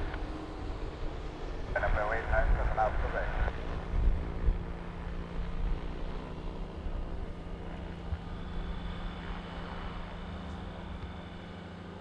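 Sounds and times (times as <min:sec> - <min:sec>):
aircraft engine running: 0:00.0 - 0:12.0.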